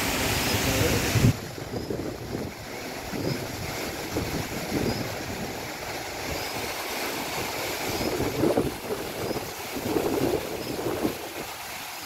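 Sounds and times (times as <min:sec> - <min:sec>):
wind buffeting microphone: 0:00.6 - 0:11.8.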